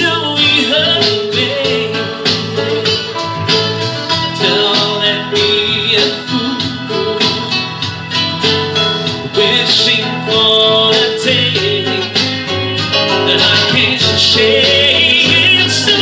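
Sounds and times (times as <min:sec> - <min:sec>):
acoustic guitar: 0:00.0 - 0:16.0
synthesizer keyboard: 0:00.0 - 0:16.0.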